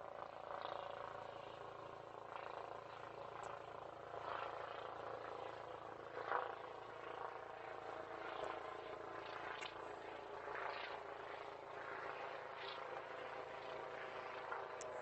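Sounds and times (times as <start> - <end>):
helicopter drone: 0.0 - 15.0.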